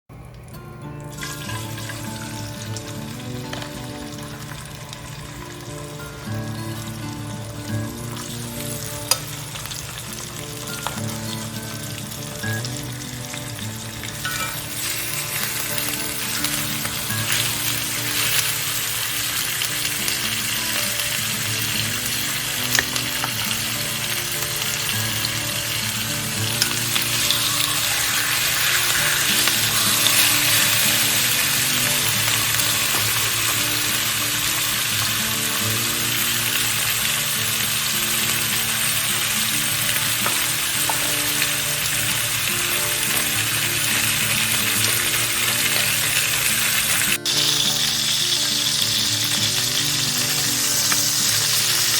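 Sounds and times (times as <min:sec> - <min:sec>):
food sizzling in hot oil: 0:00.3 - 0:51.9.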